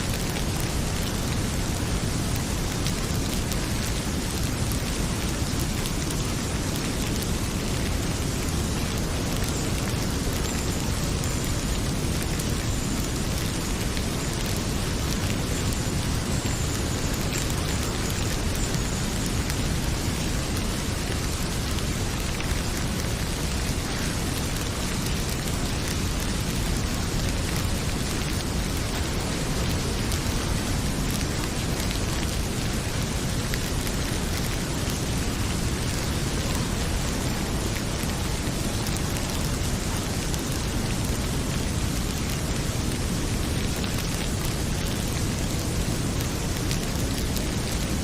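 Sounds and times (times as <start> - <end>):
heavy rain pouring: 0.0 - 48.0
wood fire crackling: 0.1 - 48.0.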